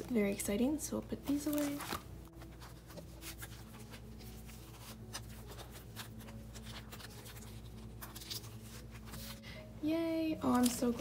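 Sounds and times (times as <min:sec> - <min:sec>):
cards rustling in plastic sleeves: 0:01.2 - 0:09.7, 0:10.4 - 0:11.0.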